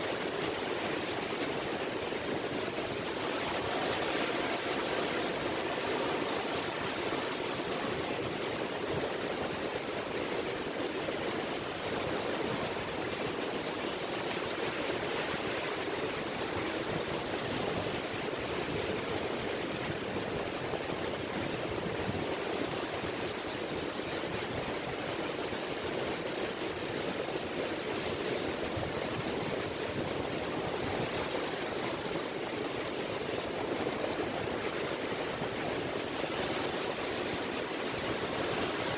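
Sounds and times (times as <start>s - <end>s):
small waves washing on shore: 0.0s - 38.9s.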